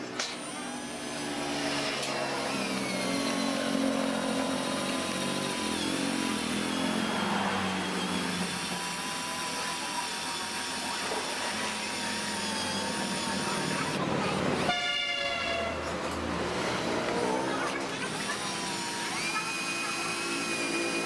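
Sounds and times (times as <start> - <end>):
cordless drill running: 0.0 - 14.8, 16.3 - 21.0.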